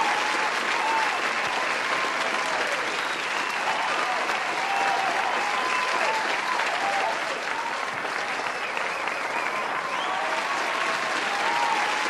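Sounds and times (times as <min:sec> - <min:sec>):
steady applause: 0:00.0 - 0:12.0.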